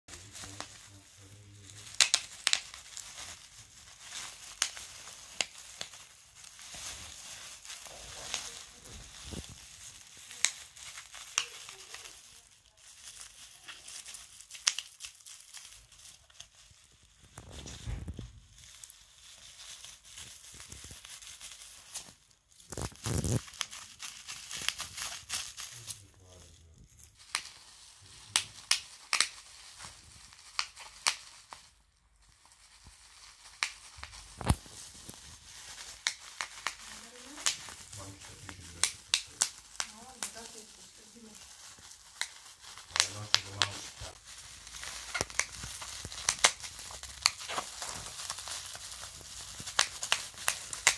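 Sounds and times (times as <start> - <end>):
bubble wrap crinkling: 0.1 - 50.9
bubble wrap pops: 0.1 - 50.9.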